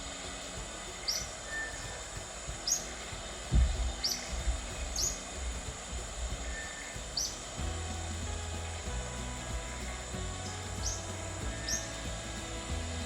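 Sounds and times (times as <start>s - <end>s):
bird chirping: 0.0s - 13.0s
flowing water: 0.0s - 13.0s.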